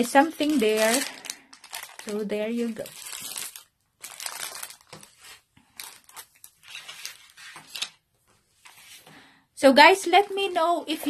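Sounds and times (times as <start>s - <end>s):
plastic packaging crinkling: 0.0s - 8.0s, 10.0s - 11.0s.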